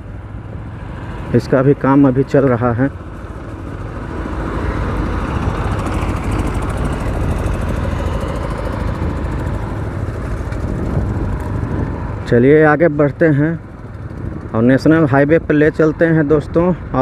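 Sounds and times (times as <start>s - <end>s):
motorcycle engine rumbling: 0.0s - 16.9s
riding noise on dirt road: 0.0s - 17.0s.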